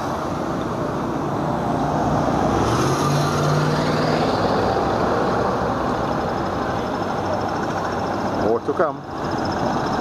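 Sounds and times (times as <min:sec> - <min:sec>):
tractor engines driving past: 0:00.0 - 0:10.0.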